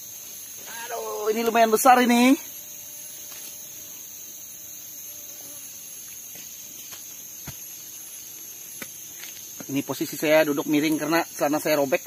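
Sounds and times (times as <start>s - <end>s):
insects chorus drone: 0.0s - 12.0s.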